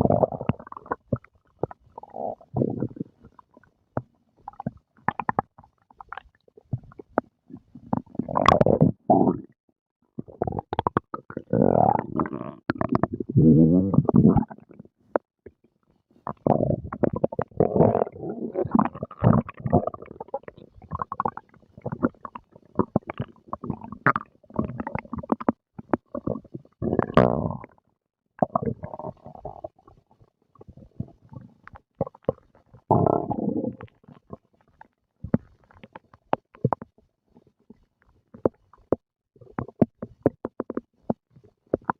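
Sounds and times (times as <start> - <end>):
stomach growling and gurgling: 0.0 - 41.9.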